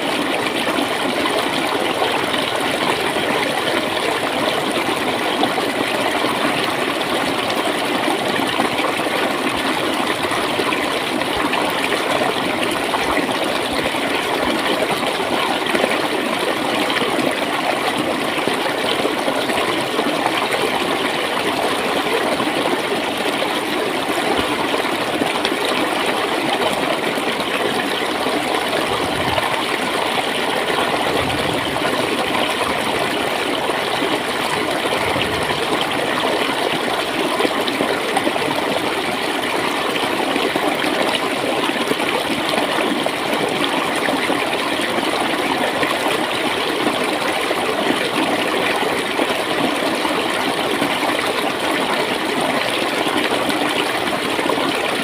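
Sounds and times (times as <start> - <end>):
water flowing and gurgling: 0.0 - 55.0.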